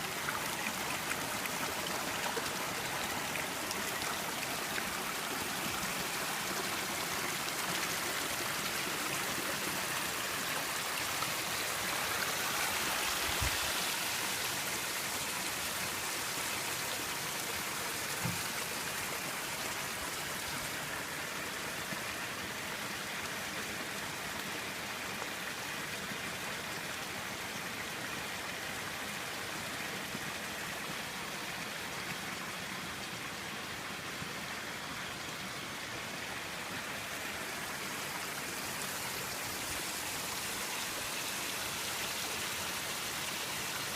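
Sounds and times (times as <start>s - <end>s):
stream water running: 0.0s - 43.9s.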